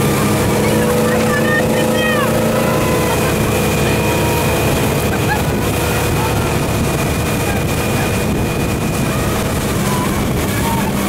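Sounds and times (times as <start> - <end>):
motorboat engine drone: 0.0 - 11.0
water wash noise: 0.0 - 11.0.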